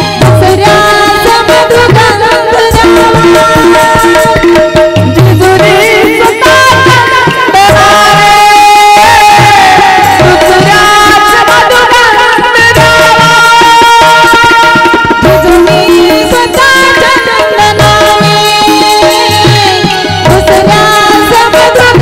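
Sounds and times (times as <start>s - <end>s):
tabla drumming: 0.0s - 22.0s.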